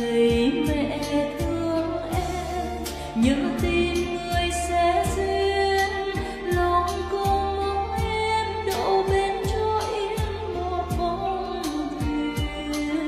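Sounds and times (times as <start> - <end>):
music track with steady beat: 0.0 - 13.0
woman singing into a microphone: 0.0 - 13.0.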